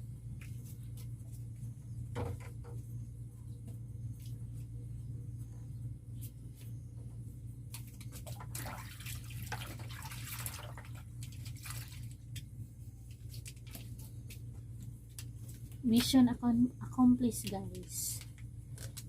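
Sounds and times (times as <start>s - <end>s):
refrigerator hum: 0.0s - 19.0s.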